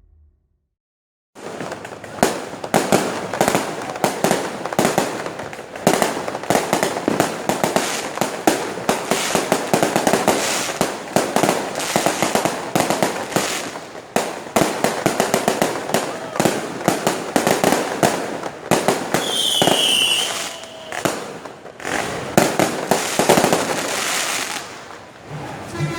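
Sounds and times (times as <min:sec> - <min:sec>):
fireworks bangs and crackles: 0:01.4 - 0:25.3.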